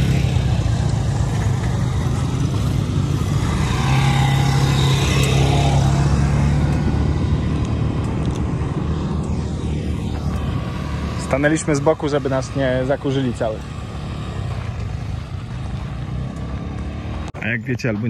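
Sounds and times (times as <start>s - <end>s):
quad bikes driving past: 0.0s - 17.6s.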